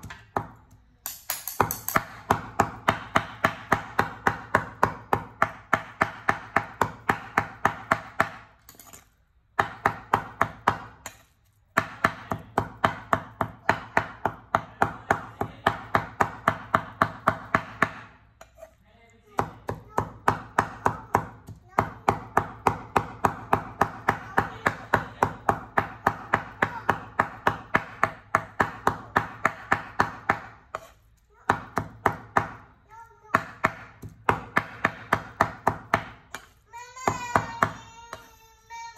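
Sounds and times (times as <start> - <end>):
cleaver chopping meat on wood: 0.0 - 0.8, 1.6 - 8.6, 9.5 - 18.2, 19.4 - 30.9, 31.5 - 38.3.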